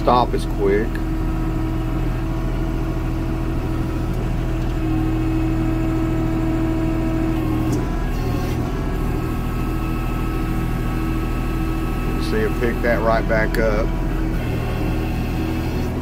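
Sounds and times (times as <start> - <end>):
steady whine: 0.0 - 16.0
tractor diesel engine under load: 0.0 - 16.0.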